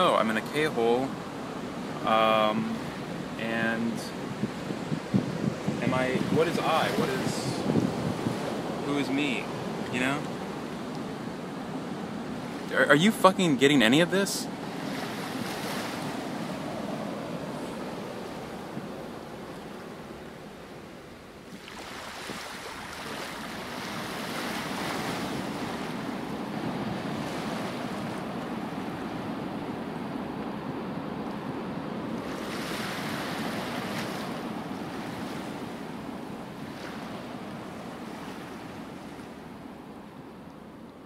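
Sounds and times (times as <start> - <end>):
waves washing ashore: 0.0 - 41.0.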